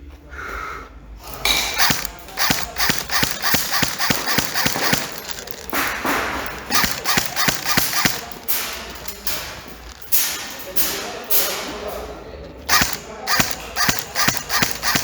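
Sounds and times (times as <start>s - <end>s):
airsoft guns firing: 1.4s - 15.0s.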